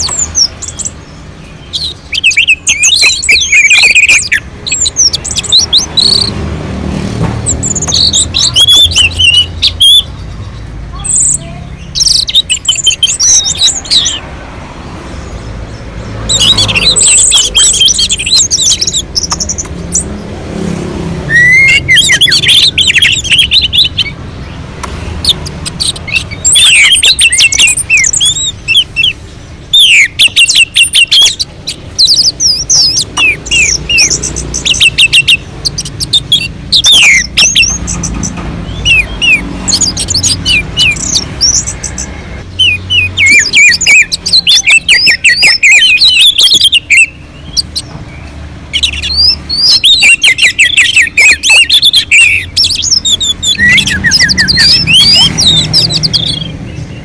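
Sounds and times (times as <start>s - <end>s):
thrush singing: 0.0s - 57.0s.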